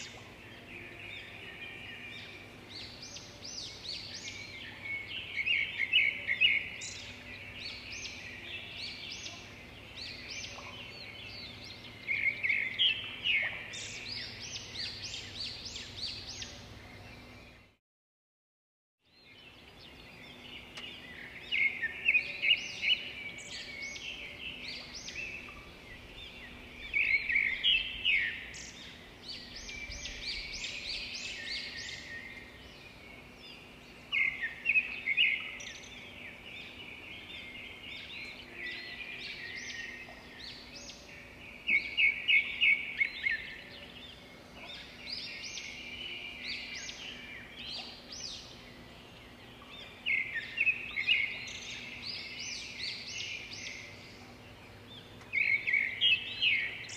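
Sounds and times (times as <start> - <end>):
birds chirping and trilling: 0.0 - 17.8, 19.1 - 56.9.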